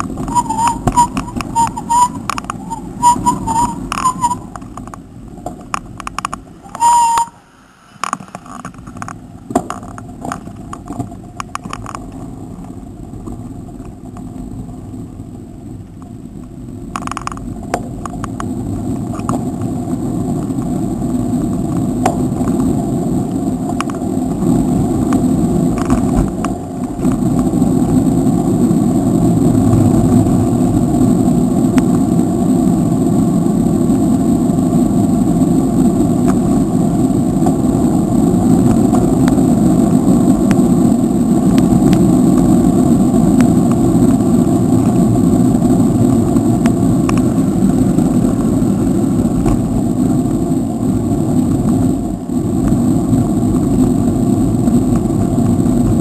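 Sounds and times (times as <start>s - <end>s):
wind and road noise on microphone: 0.0s - 56.0s.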